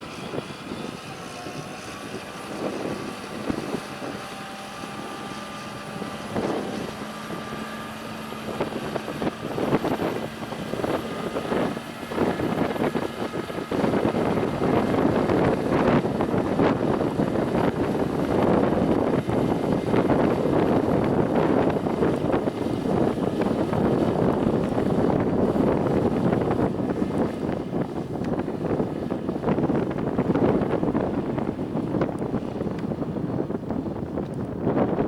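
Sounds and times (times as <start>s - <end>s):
tractor diesel engine under load: 0.0s - 35.0s
wind gusts on microphone: 0.0s - 35.0s.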